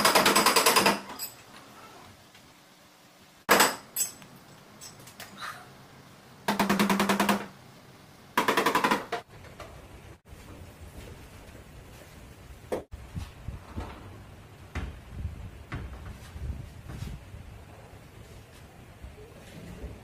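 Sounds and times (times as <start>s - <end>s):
faint workshop noise: 0.0s - 20.0s.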